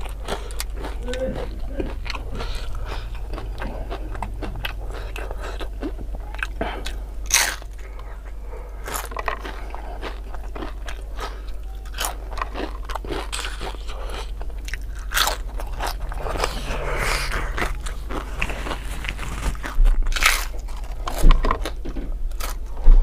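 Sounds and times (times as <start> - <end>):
crunchy chewing: 0.0 - 23.0.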